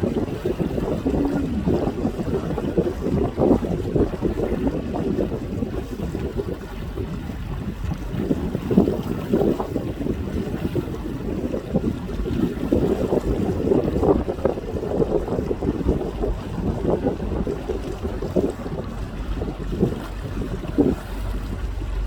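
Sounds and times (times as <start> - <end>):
boat moving through water: 0.0 - 22.0
wind buffeting microphone: 0.0 - 22.0.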